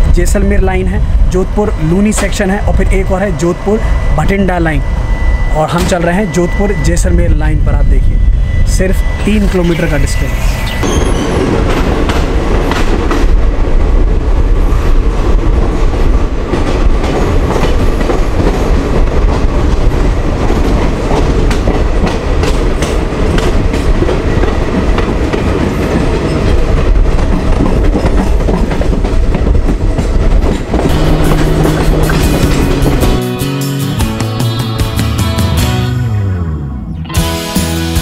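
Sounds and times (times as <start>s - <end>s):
train rumbling: 0.0s - 35.8s.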